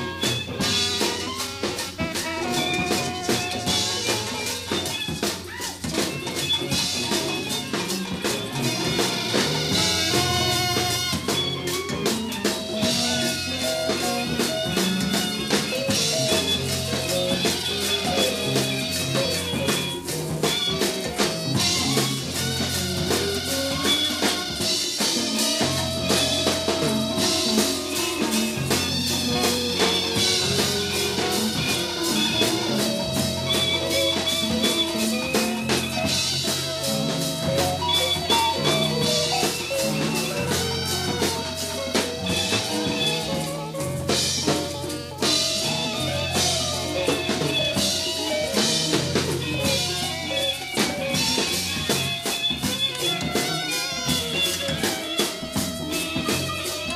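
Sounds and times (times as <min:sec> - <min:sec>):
drum kit strokes: 0:00.0 - 0:56.9
jazz ensemble playing: 0:00.0 - 0:56.9.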